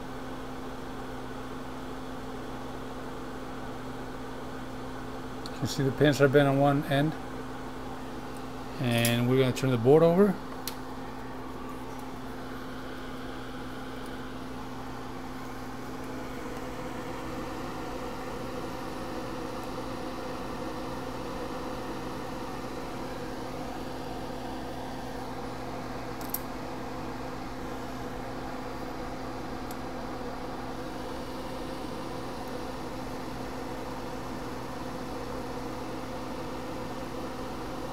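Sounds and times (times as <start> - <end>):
extractor fan humming: 0.0 - 37.9.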